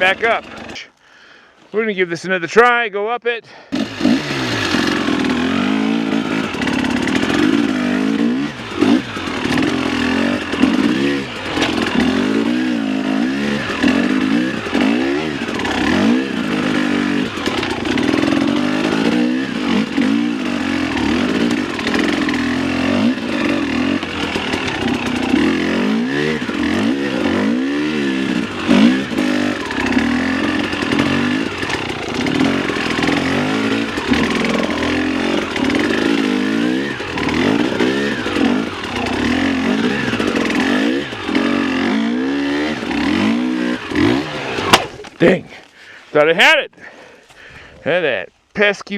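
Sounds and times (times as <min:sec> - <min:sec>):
dirt bike engine revving: 0:00.0 - 0:00.9, 0:03.5 - 0:46.5.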